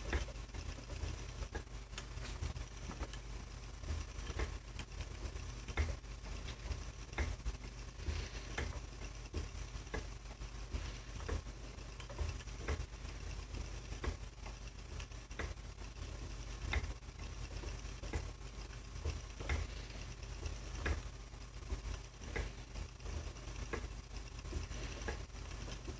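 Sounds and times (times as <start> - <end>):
spinning wheel treadled: 0.0 - 25.9.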